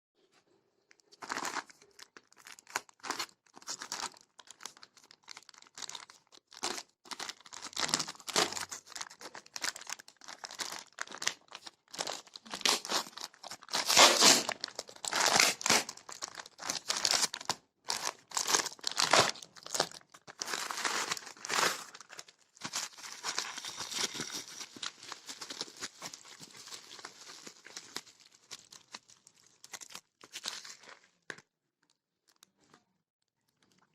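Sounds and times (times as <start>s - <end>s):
packaging crinkling and tearing: 0.9s - 32.5s.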